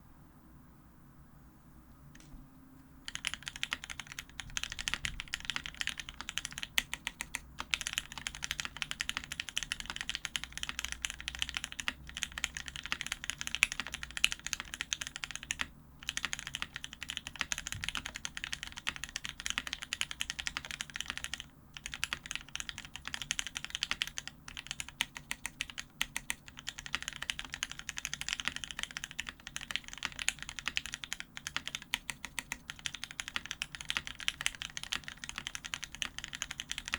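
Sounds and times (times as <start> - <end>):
fast typing on mechanical keyboard: 3.0 - 36.9.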